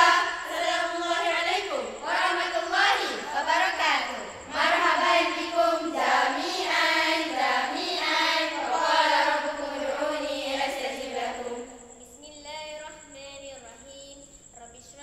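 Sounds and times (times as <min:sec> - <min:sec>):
girls chanting in unison: 0:00.0 - 0:12.1.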